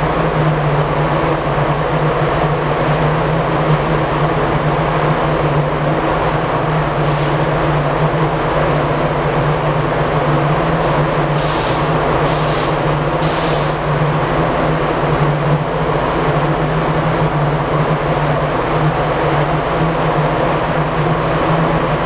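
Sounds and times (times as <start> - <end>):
exhaust fan drone: 0.0 - 22.0.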